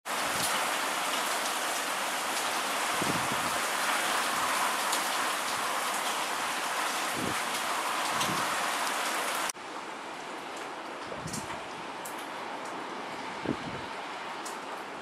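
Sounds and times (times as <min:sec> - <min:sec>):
heavy rain hiss: 0:00.1 - 0:15.0.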